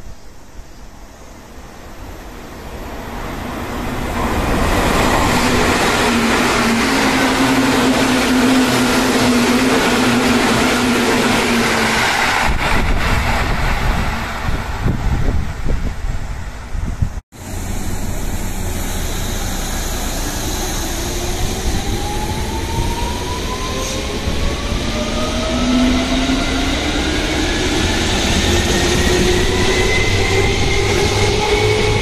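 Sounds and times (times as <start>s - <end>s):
wheels rumbling on rail: 1.4s - 32.0s.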